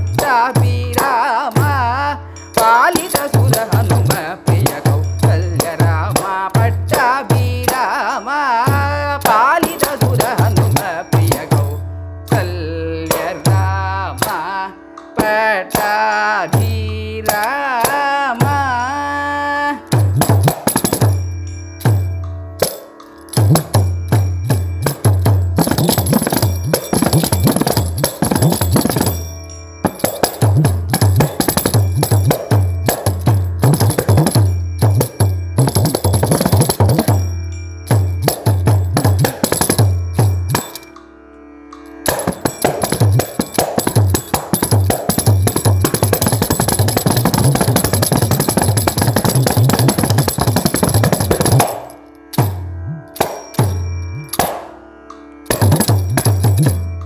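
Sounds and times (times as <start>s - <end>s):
frame drum with jingle: 0.0s - 8.0s, 8.7s - 14.6s, 19.9s - 40.9s, 42.0s - 54.8s, 55.5s - 57.0s.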